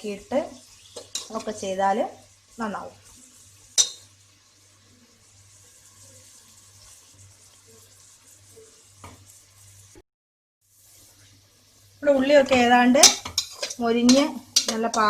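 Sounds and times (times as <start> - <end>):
onions sizzling in oil: 0.0 - 10.0, 10.6 - 15.0.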